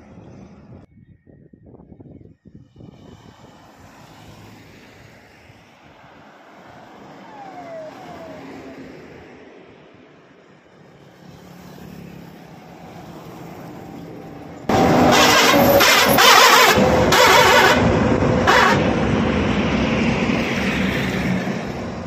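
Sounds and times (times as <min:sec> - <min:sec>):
truck passing by: 0:02.8 - 0:22.0.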